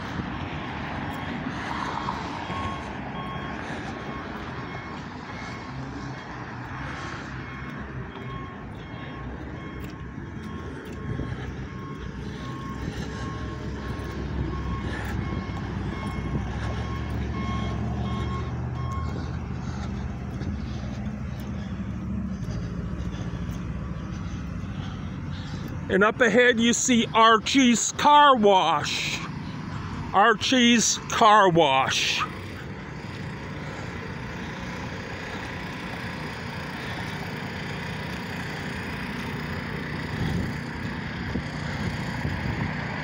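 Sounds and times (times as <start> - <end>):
street traffic: 0.0 - 43.0
vehicle engine passing: 0.0 - 43.0.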